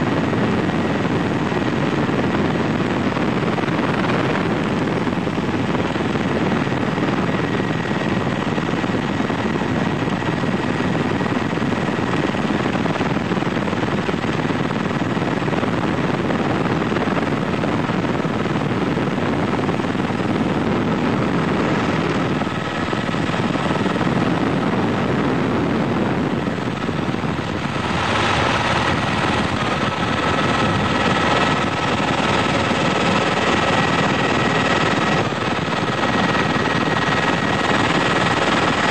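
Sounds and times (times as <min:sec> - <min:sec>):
faint high whine: 0:00.0 - 0:38.9
helicopter rotor and engine drone: 0:00.0 - 0:38.9.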